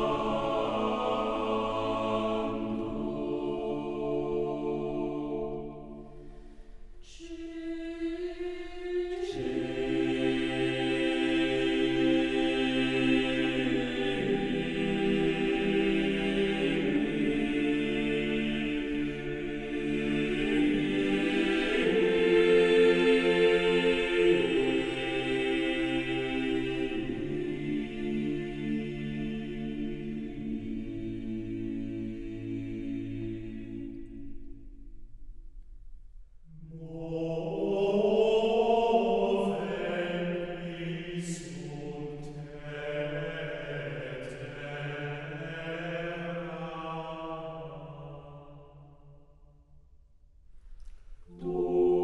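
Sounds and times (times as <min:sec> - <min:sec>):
choir singing sustained chords: 0:00.0 - 0:52.0.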